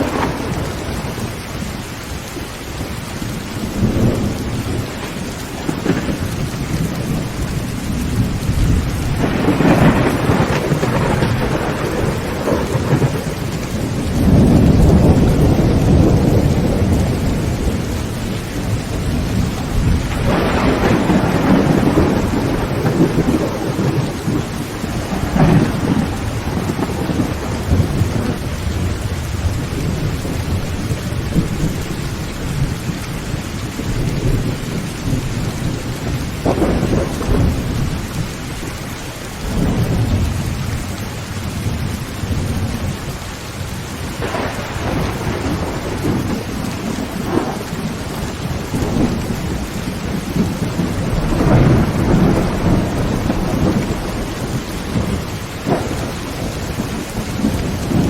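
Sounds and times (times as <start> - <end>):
thunder rolling: 0.0 - 1.7, 2.9 - 43.2, 43.9 - 58.0
heavy rain on a tin roof: 0.0 - 58.0.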